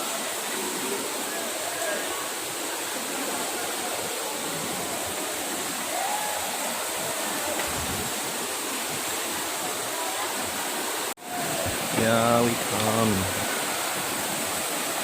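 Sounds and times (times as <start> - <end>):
waterfall roar: 0.0 - 15.0.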